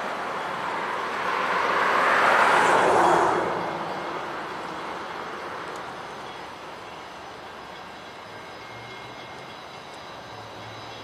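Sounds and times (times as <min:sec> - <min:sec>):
distant diesel locomotive engine: 0:00.0 - 0:11.0.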